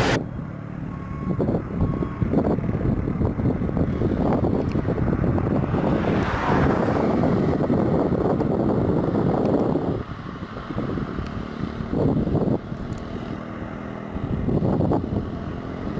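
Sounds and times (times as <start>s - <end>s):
diesel truck rumbling: 0.0s - 15.9s.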